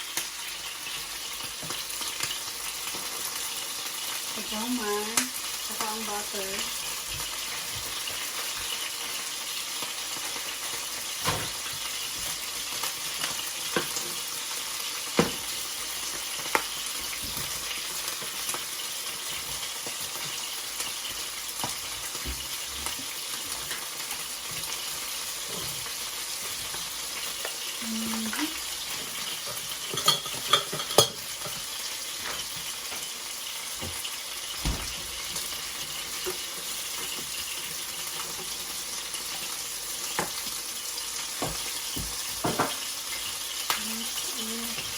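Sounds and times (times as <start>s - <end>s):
butter sizzling in a frying pan: 0.0s - 44.9s.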